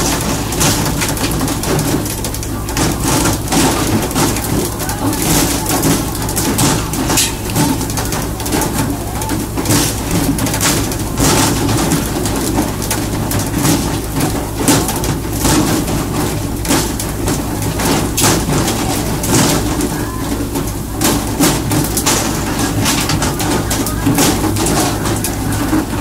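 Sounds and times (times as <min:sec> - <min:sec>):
boat engine running: 0:00.0 - 0:26.0
fish splashing and slapping: 0:00.0 - 0:26.0
water rushing along hull: 0:00.0 - 0:26.0.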